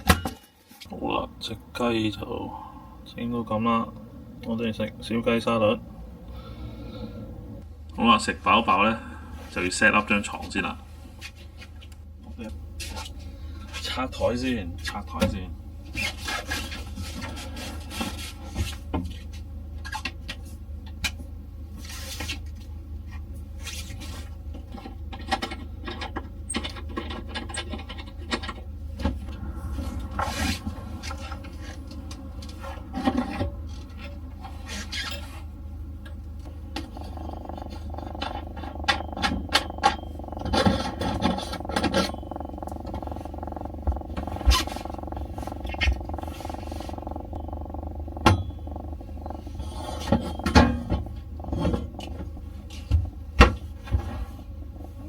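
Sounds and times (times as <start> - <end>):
steady low hum: 0.8 - 55.0.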